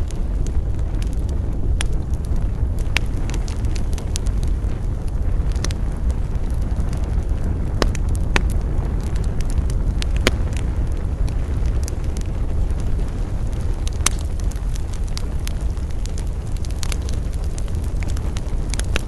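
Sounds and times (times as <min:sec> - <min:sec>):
campfire crackling and popping: 0:00.0 - 0:19.0
low fire rumble: 0:00.0 - 0:19.0.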